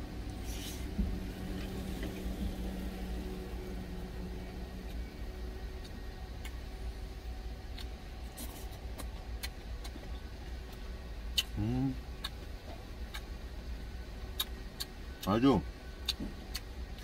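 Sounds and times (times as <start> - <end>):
hum: 0.0 - 17.0.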